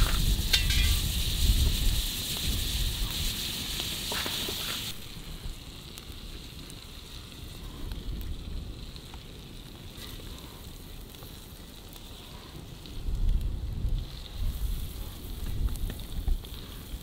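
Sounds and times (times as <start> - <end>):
griddle sizzling: 0.0 - 17.0
small crackles and ticks: 0.0 - 17.0.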